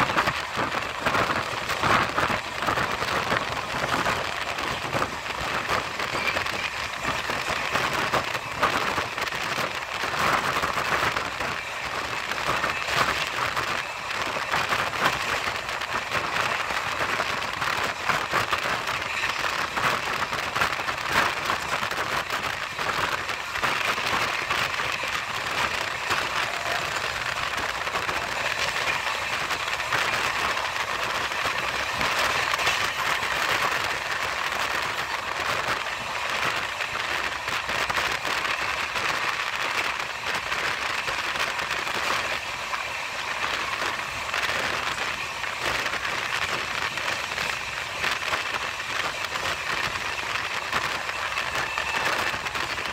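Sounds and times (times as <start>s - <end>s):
train wheels rattling on rails: 0.0s - 52.9s.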